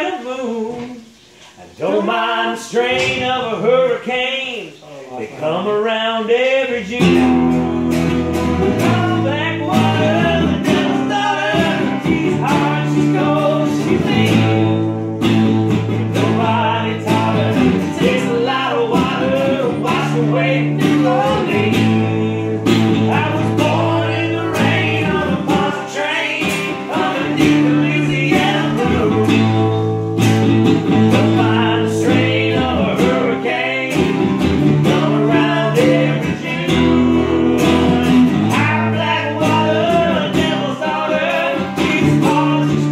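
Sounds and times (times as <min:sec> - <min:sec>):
acoustic guitars strumming: 0:00.0 - 0:04.8, 0:05.4 - 0:42.9
man singing: 0:00.0 - 0:30.1, 0:30.8 - 0:42.9.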